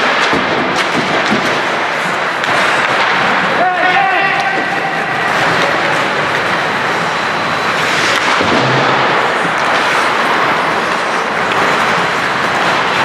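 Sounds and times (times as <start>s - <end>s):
skates on ice: 0.0s - 13.0s.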